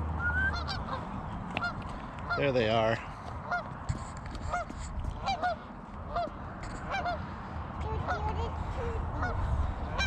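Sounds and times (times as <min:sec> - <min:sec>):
geese honking: 0:00.2 - 0:03.8, 0:04.4 - 0:08.5, 0:09.1 - 0:10.0.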